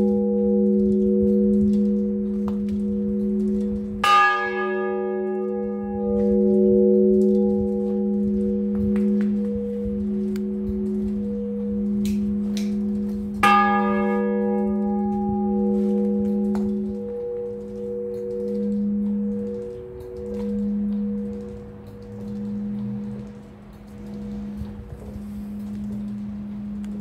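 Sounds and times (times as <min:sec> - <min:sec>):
church bell strikes: 0:00.0 - 0:27.0.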